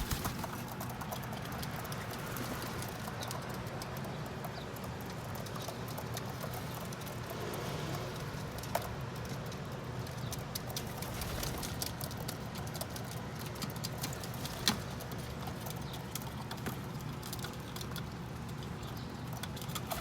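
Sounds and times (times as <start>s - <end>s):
pigeons pecking seeds: 0.0s - 20.0s.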